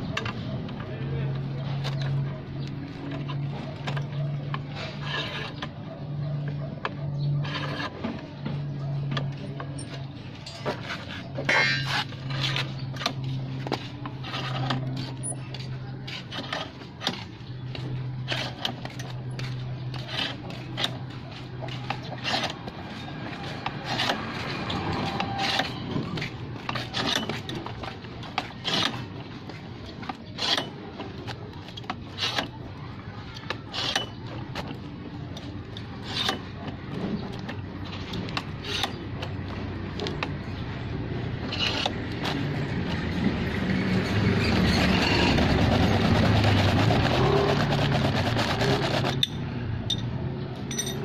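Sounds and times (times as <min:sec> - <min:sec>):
metal clicks and scraping of spring: 0:01.6 - 0:42.4, 0:49.0 - 0:51.0.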